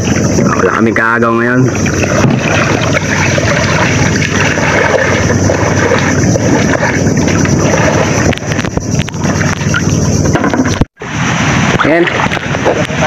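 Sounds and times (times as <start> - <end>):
water rushing and sloshing: 0.0 - 13.0
wind buffeting microphone: 0.0 - 13.0.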